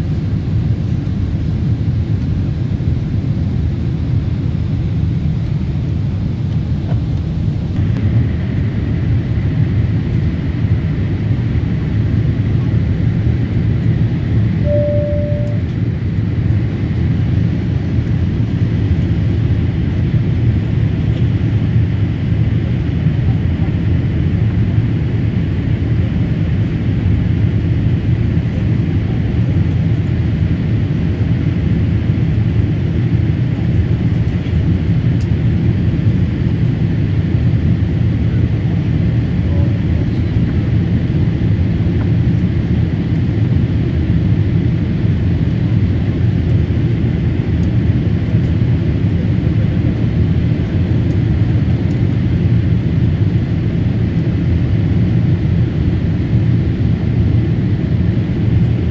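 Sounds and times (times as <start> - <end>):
aircraft engines rumbling in cabin: 0.0 - 58.9.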